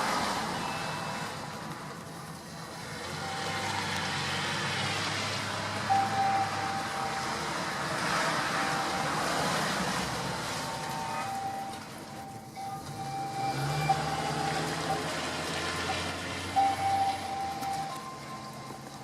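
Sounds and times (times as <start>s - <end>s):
vehicle passing: 2.4s - 19.0s.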